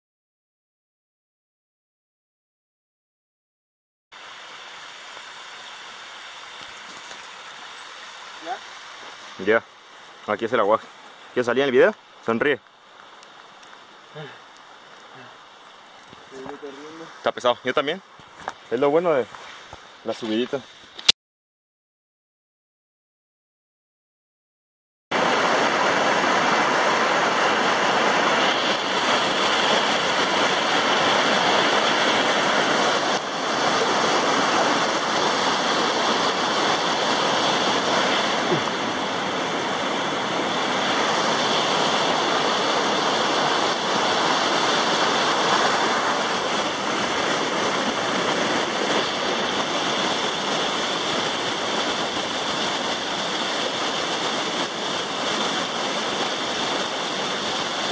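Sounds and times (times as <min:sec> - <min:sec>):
waterfall rushing over rocks: 0:04.2 - 0:19.3, 0:25.2 - 0:57.9.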